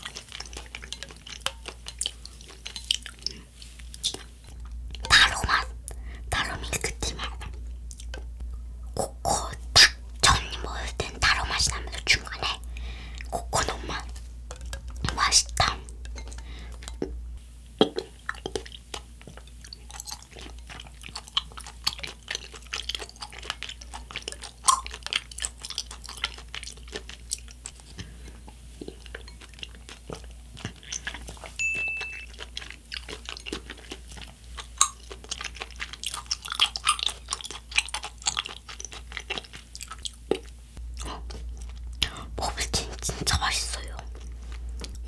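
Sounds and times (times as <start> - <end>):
chewing tapioca pearls: 0.0 - 45.0.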